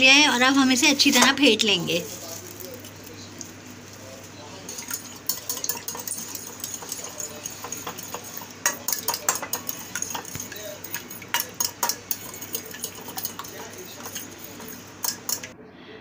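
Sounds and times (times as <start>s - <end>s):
spoon clinking and scraping bowl: 0.5s - 15.5s.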